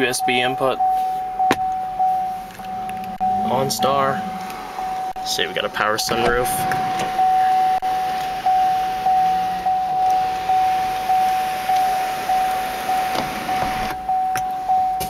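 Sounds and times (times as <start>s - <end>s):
car warning chime: 0.0s - 15.0s.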